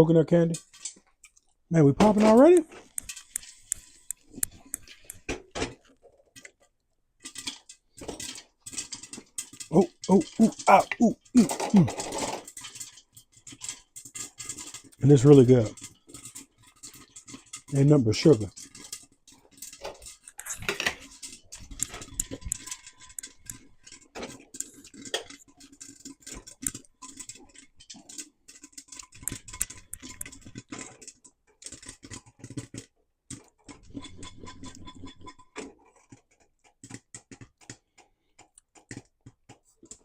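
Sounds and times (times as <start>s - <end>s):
popcorn popping in a pot: 1.7s - 5.7s, 7.3s - 19.0s, 19.6s - 37.8s.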